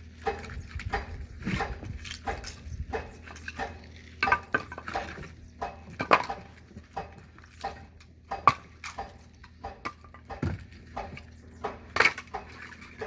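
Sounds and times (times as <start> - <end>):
firewood being split: 0.1 - 13.0.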